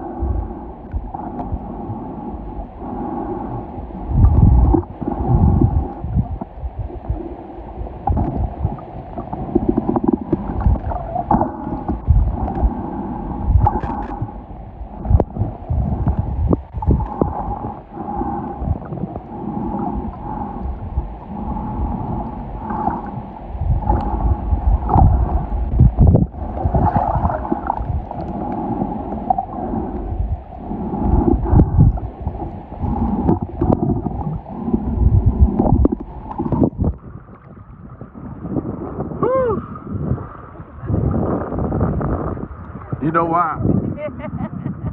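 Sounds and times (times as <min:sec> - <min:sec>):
low rumbles and thumps: 0:00.0 - 0:39.3
underwater water gurgling: 0:00.0 - 0:43.0.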